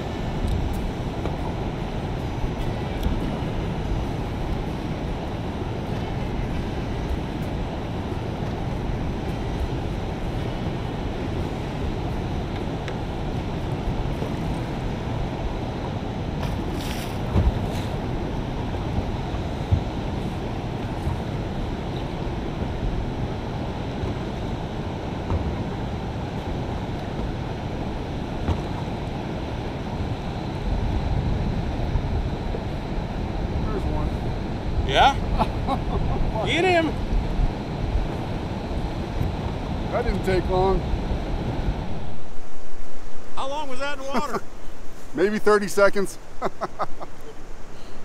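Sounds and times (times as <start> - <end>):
wind buffeting microphone: 0.0 - 43.6.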